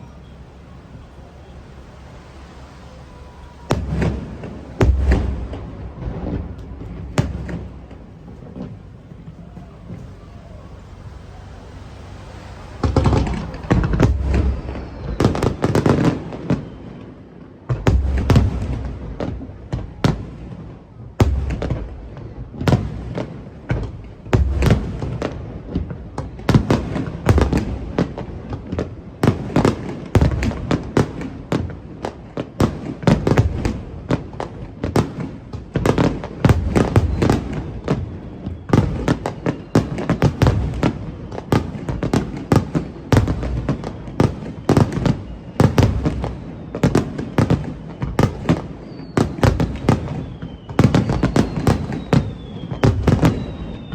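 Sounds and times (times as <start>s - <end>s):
fireworks booming and crackling: 0.0s - 53.9s.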